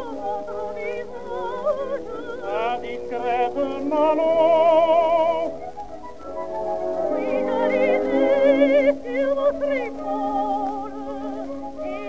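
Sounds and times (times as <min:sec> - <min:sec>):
operatic singing with vibrato: 0:00.0 - 0:12.0.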